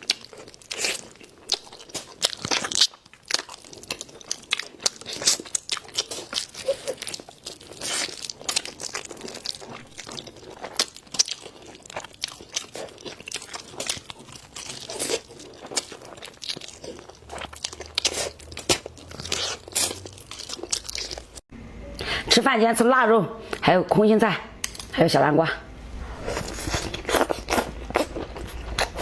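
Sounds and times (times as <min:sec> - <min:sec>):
person chewing crunchy food: 0:00.0 - 0:21.4, 0:26.2 - 0:29.0.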